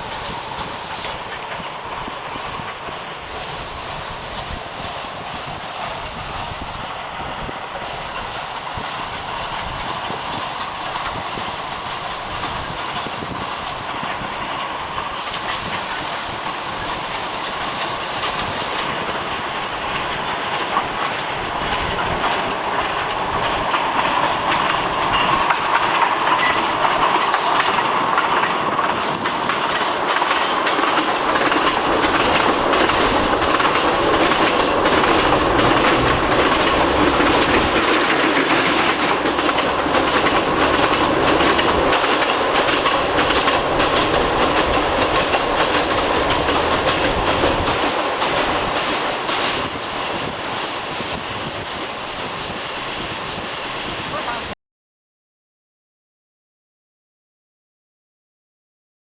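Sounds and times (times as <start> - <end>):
train wheels clattering on rails: 0.0 - 53.6.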